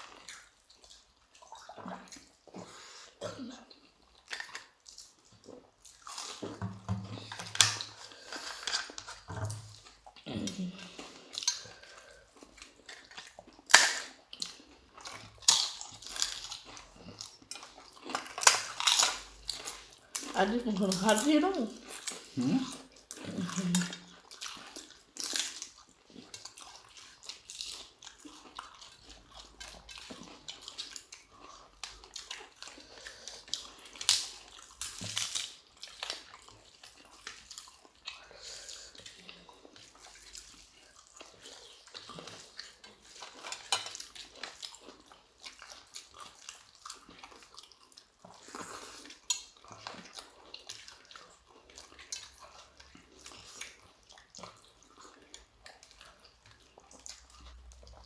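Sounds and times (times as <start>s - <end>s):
people chewing crunchy food: 0.0s - 58.0s.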